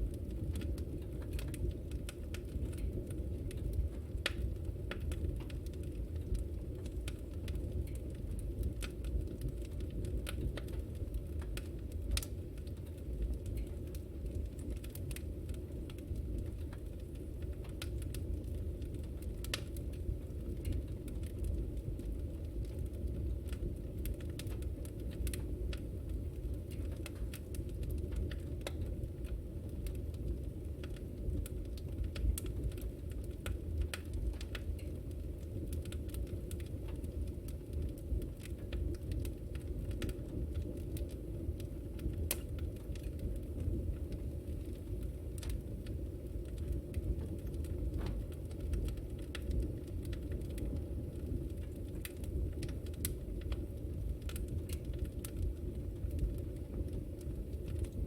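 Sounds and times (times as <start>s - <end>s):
low rumble of flames: 0.0s - 58.0s
wood fire pops: 0.0s - 58.0s.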